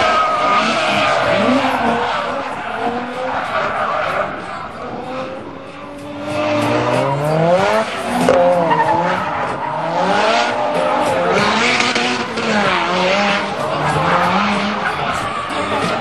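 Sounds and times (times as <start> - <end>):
car engine revving: 0.0 - 16.0
tyres squealing: 0.0 - 16.0.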